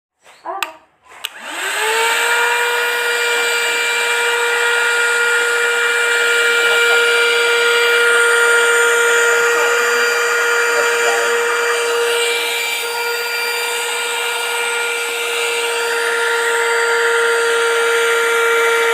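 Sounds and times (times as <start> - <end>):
handheld vacuum motor whining: 1.1 - 18.9.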